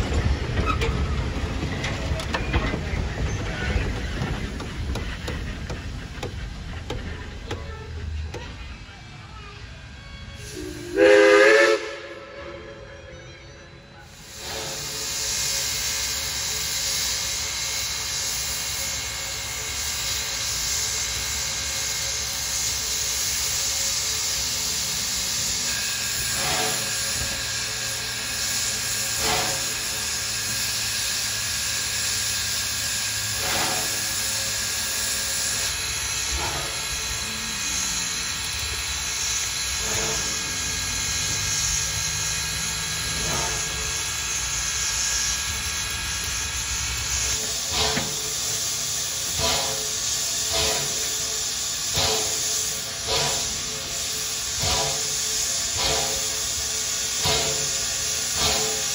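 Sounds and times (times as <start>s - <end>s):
steam locomotive hissing: 0.0s - 58.9s.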